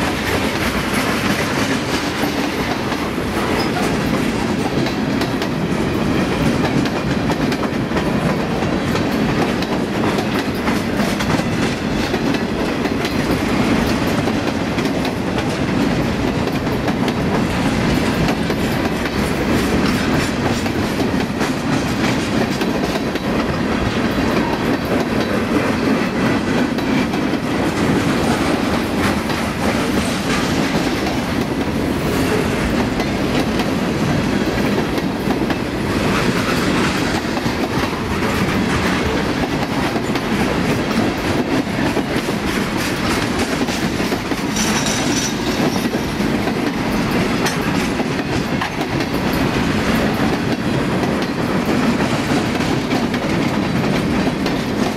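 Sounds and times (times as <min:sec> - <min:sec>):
train rumble: 0:00.0 - 0:54.9
train wheels clicking over rail joints: 0:00.0 - 0:54.9.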